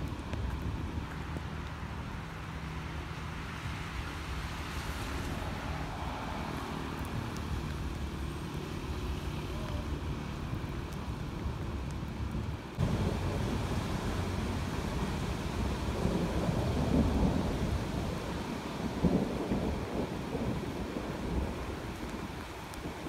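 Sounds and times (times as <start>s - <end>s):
city traffic rumble: 0.0s - 23.0s
wind buffeting microphone: 0.0s - 23.0s.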